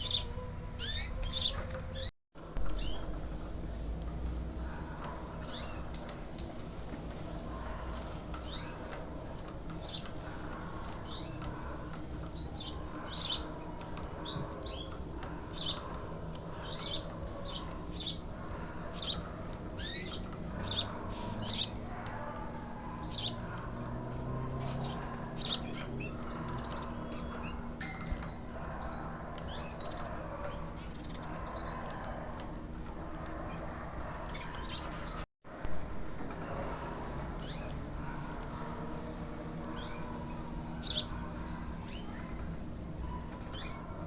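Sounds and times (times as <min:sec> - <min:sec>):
canary chirping: 0:00.0 - 0:03.8, 0:04.4 - 0:35.2, 0:36.4 - 0:44.0
faint background hum: 0:00.0 - 0:44.0.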